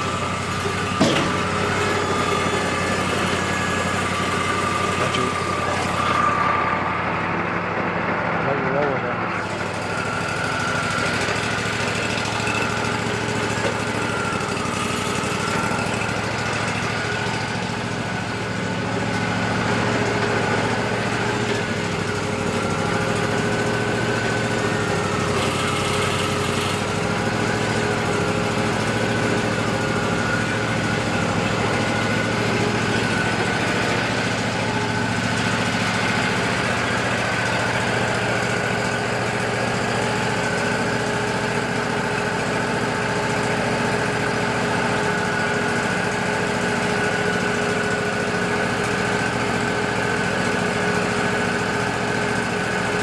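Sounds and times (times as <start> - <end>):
high wavering saw whine: 0.0 - 8.0, 9.3 - 53.0
band sawmill engine droning: 0.0 - 53.0.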